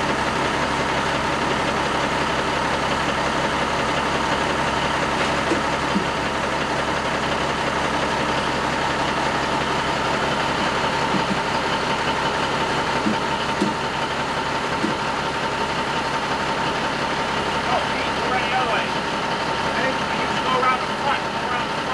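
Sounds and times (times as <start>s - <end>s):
diesel truck engine idling: 0.0s - 21.9s.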